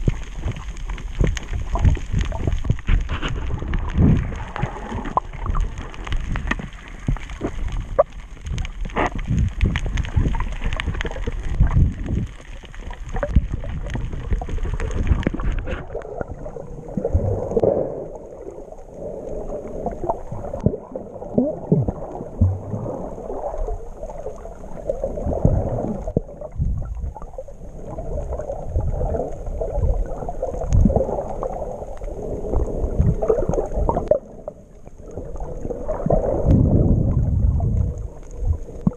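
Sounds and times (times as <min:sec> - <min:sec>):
underwater gurgling and bubbling: 0:00.0 - 0:38.9
water splashing and sloshing: 0:00.0 - 0:38.9.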